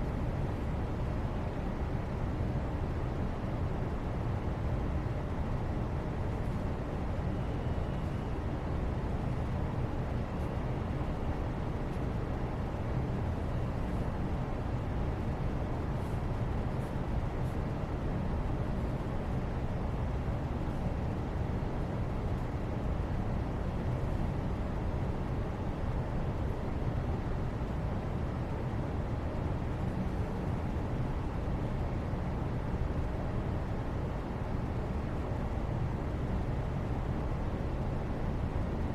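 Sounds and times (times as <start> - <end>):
low background rumble: 0.0 - 38.9.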